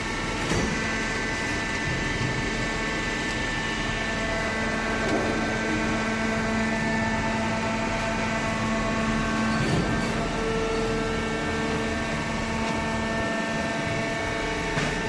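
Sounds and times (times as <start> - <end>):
pump whine: 0.0 - 15.0.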